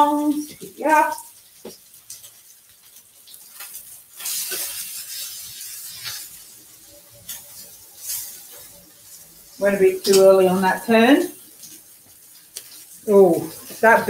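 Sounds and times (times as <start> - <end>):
chicken sizzling in frying pan: 0.0 - 14.0.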